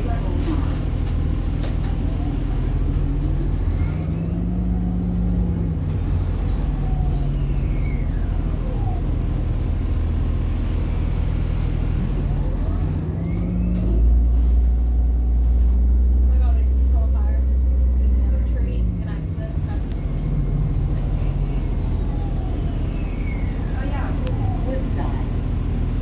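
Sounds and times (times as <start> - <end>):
bus engine rumble: 0.0 - 26.0
drivetrain whine: 0.0 - 26.0.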